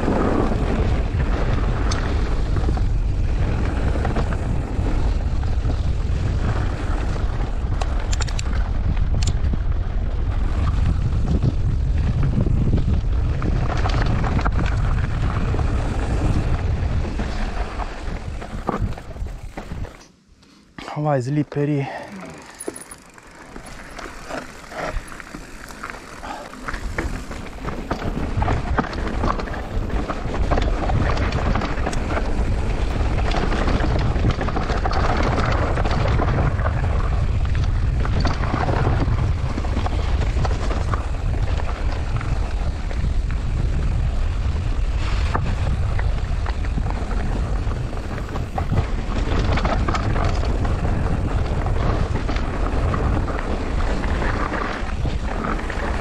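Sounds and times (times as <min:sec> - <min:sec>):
wind buffeting microphone: 0:00.0 - 0:20.0, 0:26.2 - 0:56.0
bike rattling: 0:00.0 - 0:56.0
bike tyres crunching gravel: 0:00.0 - 0:56.0.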